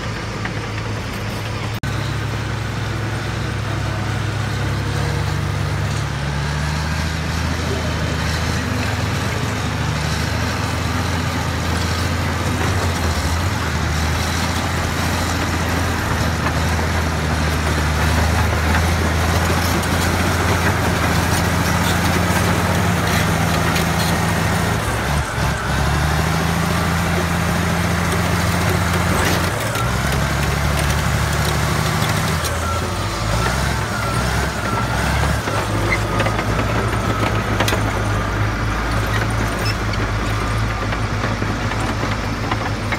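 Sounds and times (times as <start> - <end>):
diesel engine under load: 0.0 - 42.9.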